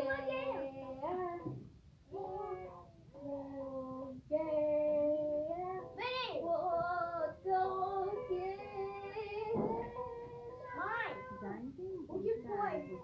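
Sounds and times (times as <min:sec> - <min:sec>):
girl singing: 0:00.0 - 0:11.3.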